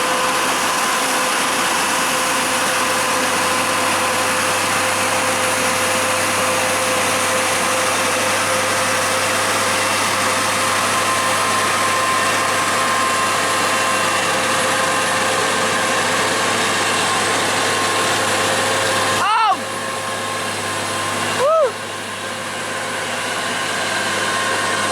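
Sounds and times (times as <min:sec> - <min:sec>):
heavy vehicle engine running: 0:00.0 - 0:24.9
steady whine: 0:00.0 - 0:24.9.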